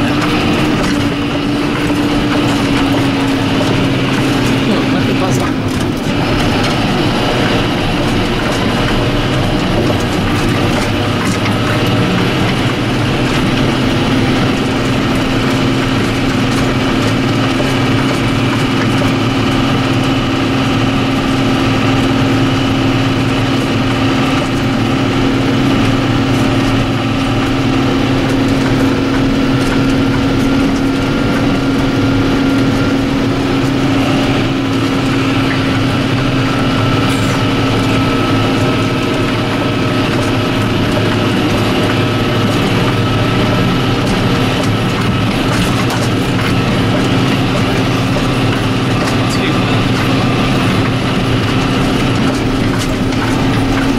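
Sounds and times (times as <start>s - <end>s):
tractor engine droning: 0.0s - 53.9s.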